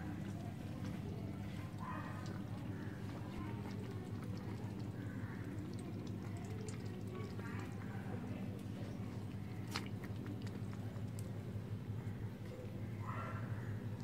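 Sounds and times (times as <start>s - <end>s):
kittens lapping milk: 0.0s - 12.4s
steady low hum: 0.0s - 14.0s.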